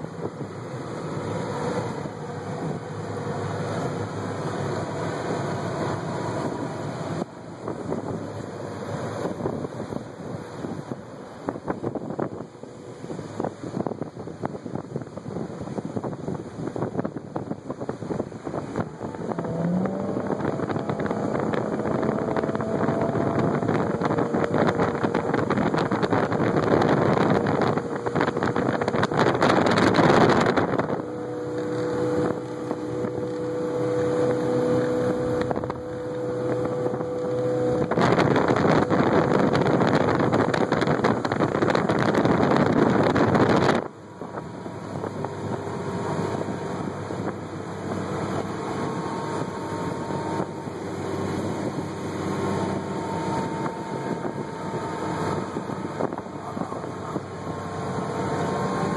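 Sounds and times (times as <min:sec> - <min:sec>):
boat engine running at speed: 0:00.0 - 0:58.9
water churning: 0:00.0 - 0:58.9
wind on microphone: 0:00.0 - 0:58.9.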